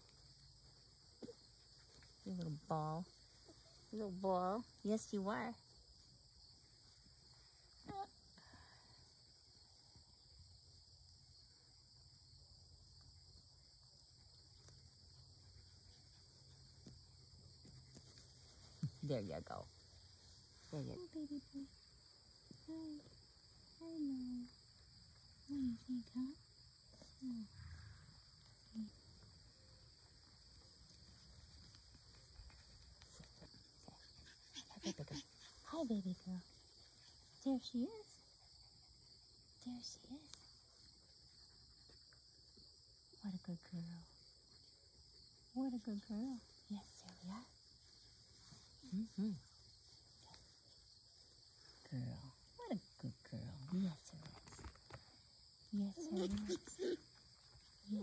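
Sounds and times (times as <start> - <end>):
faint insect chorus: 0.0 - 58.0.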